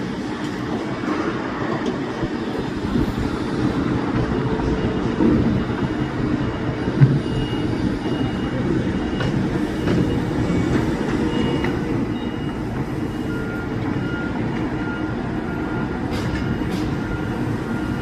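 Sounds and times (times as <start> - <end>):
diesel engines running: 0.0 - 18.0
backup alarms beeping: 2.5 - 18.0.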